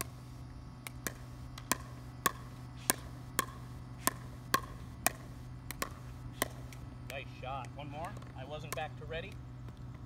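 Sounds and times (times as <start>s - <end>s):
paddles hitting plastic ball: 0.8s - 10.0s.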